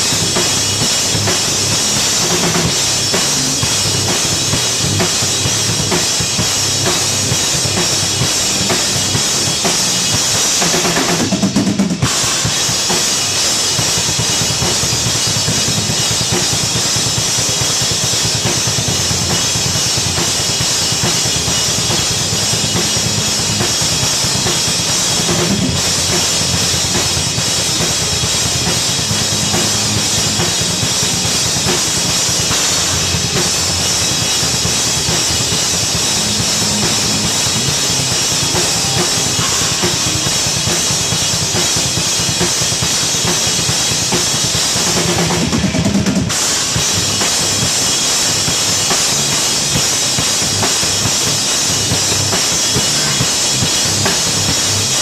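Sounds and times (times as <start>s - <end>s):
drum kit playing: 0.0s - 55.0s
electric bass: 0.0s - 55.0s
electric guitar through amplifier: 0.0s - 55.0s.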